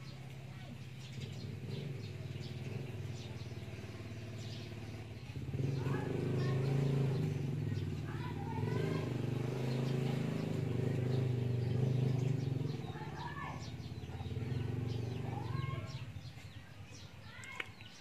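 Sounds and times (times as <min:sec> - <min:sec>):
vehicle engine humming: 0:00.0 - 0:17.4
small birds chirping: 0:00.0 - 0:18.0.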